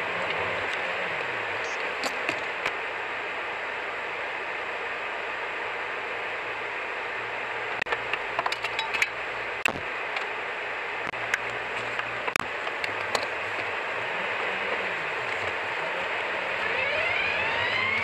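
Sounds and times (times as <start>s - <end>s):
low engine hum: 0.0s - 18.0s
road and wind noise inside car: 0.0s - 18.0s.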